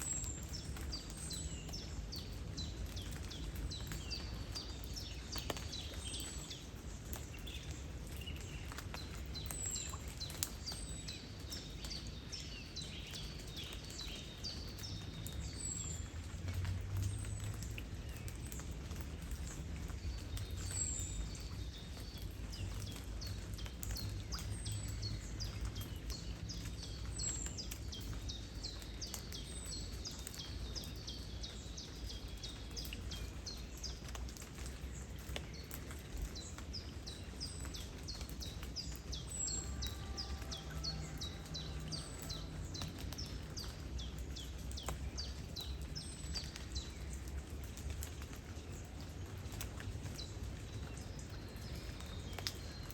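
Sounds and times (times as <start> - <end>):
flowing river water: 0.0 - 52.9
light rain ticking: 0.0 - 52.9
small birds chirping: 0.0 - 52.9
wind: 0.0 - 52.9.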